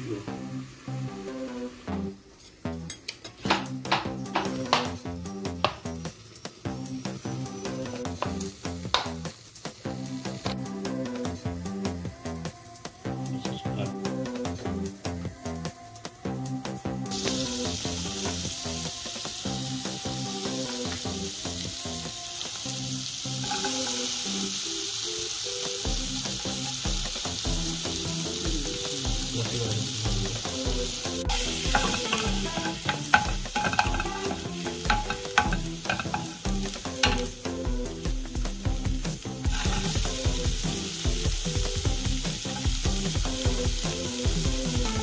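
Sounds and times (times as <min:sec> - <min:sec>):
garlic sizzling in butter: 0:00.0 - 0:16.3, 0:17.0 - 0:45.0
background music with beat: 0:00.0 - 0:45.0.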